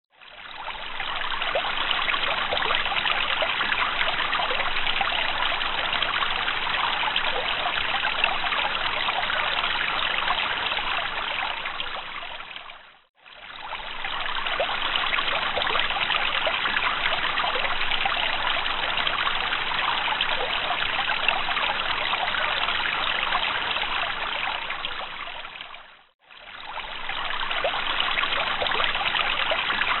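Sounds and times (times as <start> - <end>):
water trickling: 0.1 - 30.0.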